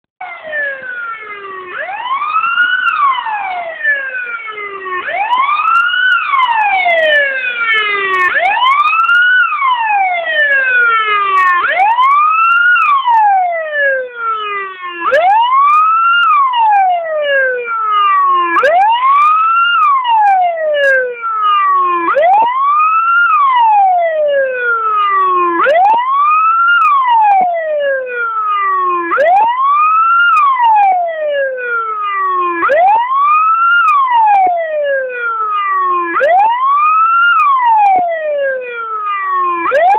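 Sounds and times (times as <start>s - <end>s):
fire engine siren wailing: 0.2s - 39.9s.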